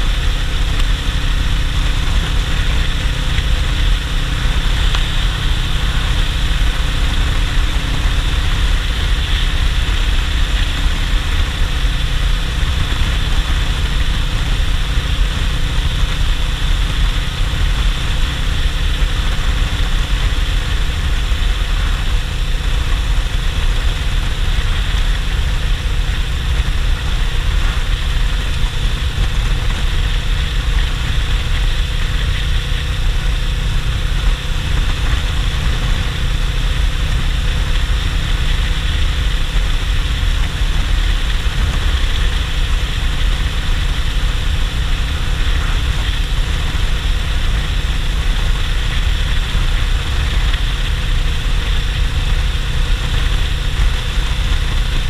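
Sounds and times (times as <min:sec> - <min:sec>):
motorcycle engine running steadily: 0:00.0 - 0:55.0
wind rushing over microphone: 0:00.0 - 0:55.0.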